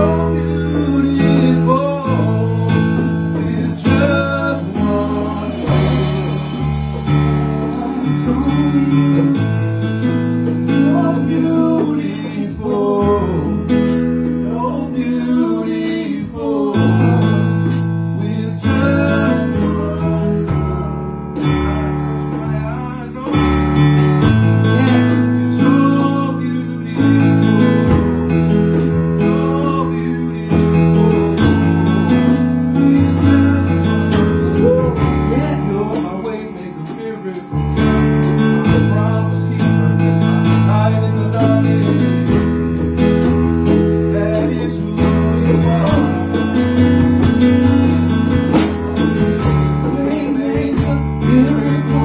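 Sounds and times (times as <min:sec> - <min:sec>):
person singing: 0:00.0 - 0:24.0, 0:24.6 - 0:52.0
drum kit and cymbals: 0:00.0 - 0:26.2, 0:27.0 - 0:52.0
keyboard chords: 0:00.0 - 0:52.0.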